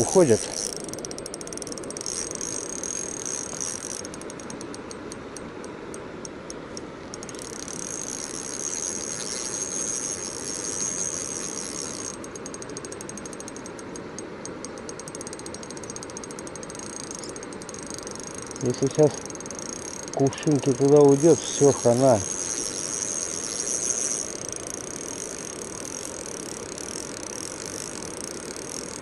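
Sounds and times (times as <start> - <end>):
fishing reel drag clicking: 0.0 - 29.0.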